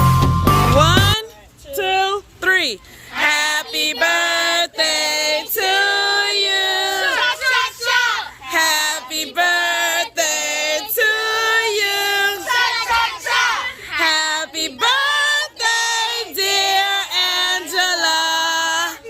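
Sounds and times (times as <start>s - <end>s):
children and women singing: 3.1s - 19.0s.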